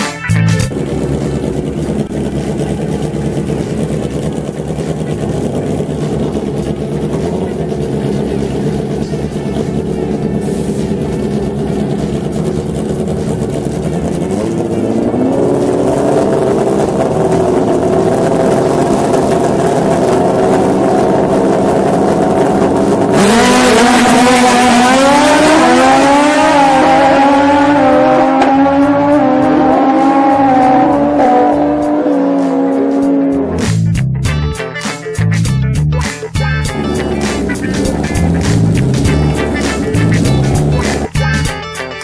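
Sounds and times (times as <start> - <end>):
motorcycle engines revving: 0.0 - 34.0, 35.7 - 41.6.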